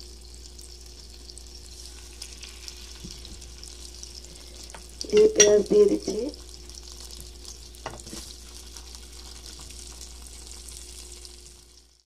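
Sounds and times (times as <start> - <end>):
oil sizzling in frying pan: 0.0 - 12.0.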